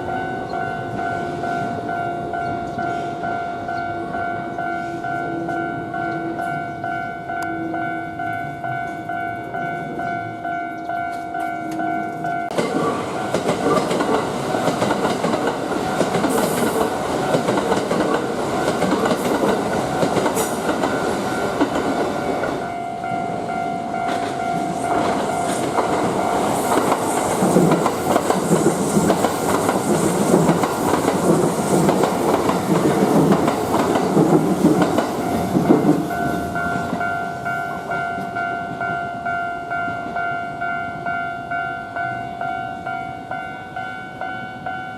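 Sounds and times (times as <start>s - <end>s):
crossing warning bell ringing: 0.0s - 31.2s, 31.8s - 44.9s
electric train rushing past: 0.0s - 44.9s.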